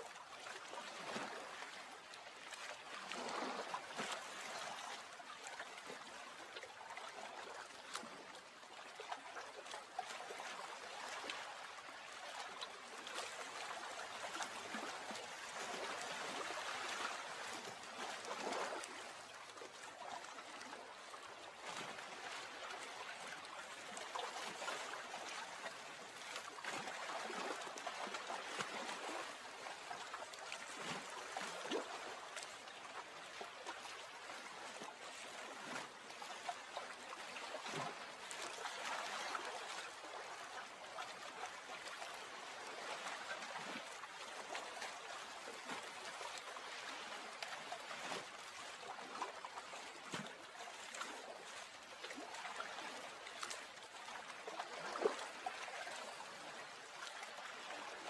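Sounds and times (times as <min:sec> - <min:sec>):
water trickling and lapping: 0:00.0 - 0:58.0.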